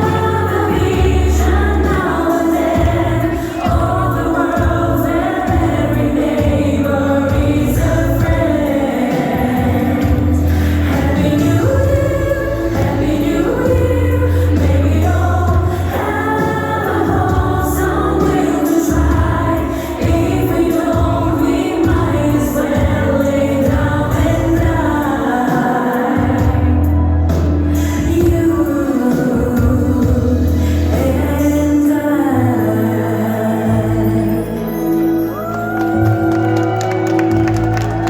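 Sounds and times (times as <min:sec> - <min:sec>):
sustained deep bass notes: 0:00.0 - 0:25.4, 0:26.2 - 0:31.8
choir singing: 0:00.0 - 0:36.4.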